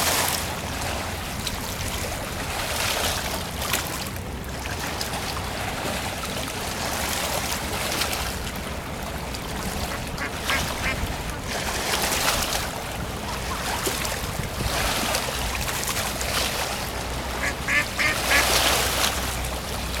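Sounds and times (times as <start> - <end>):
boat engine low rumble: 0.0 - 20.0
splashing water: 0.0 - 20.0.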